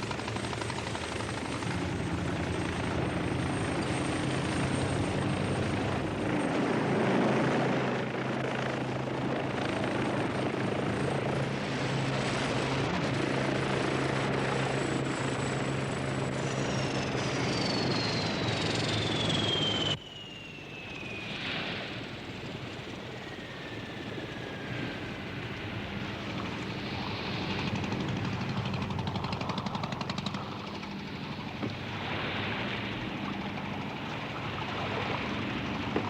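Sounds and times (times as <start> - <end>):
helicopter running: 0.0 - 36.0.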